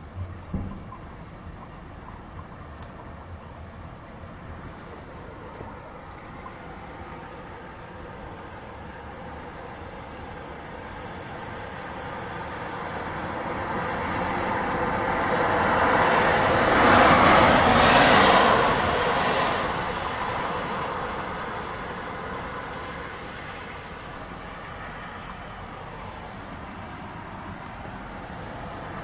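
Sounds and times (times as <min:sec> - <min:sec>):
car passing on wet road: 0:00.0 - 0:29.0.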